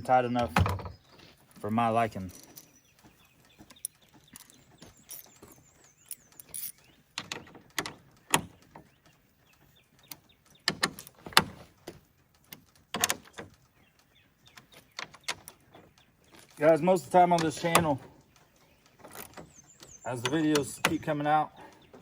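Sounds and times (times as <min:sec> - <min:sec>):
hand tools clicking and knocking: 0:00.3 - 0:22.0.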